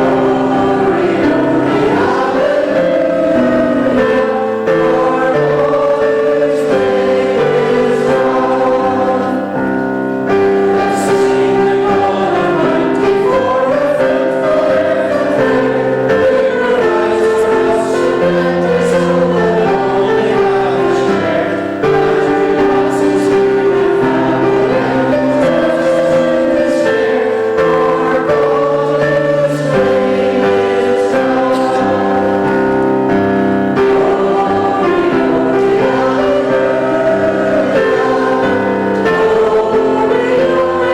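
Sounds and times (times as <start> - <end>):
congregation singing a hymn: 0.0 - 40.9
instrumental accompaniment: 0.0 - 40.9.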